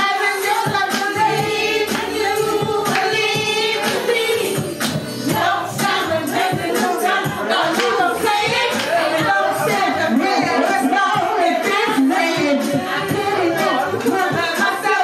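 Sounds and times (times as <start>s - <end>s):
musical backing with steady beat: 0.0s - 15.0s
women singing together: 0.0s - 15.0s.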